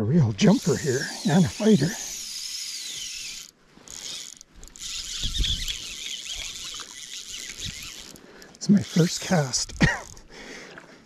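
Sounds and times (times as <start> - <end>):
fishing reel drag whirring: 0.3 - 10.3.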